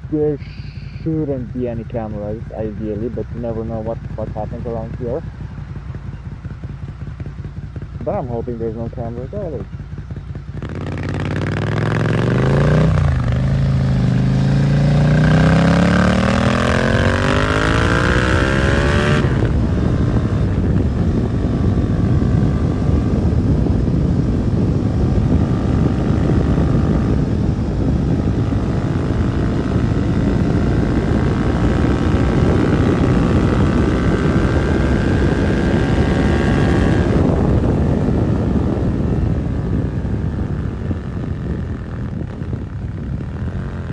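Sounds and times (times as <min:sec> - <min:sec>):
motorcycle engine accelerating: 0:00.0 - 0:43.9
wind and road noise: 0:00.0 - 0:43.9.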